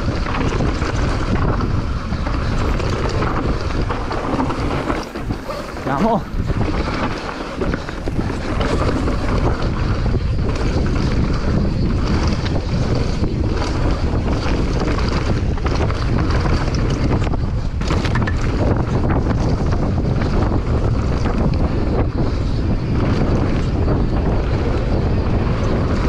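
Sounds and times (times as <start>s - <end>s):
bike rattling over bumps: 0.0s - 26.0s
tyres rumbling on dirt: 0.0s - 26.0s
wind buffeting microphone: 0.0s - 26.0s.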